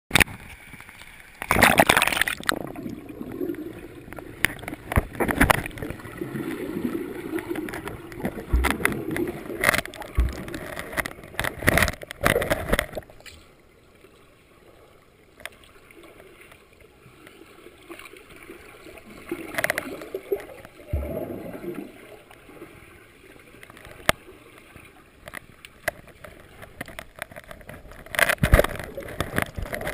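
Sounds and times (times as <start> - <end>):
muffled underwater splashing: 0.1 - 12.8, 17.0 - 29.9.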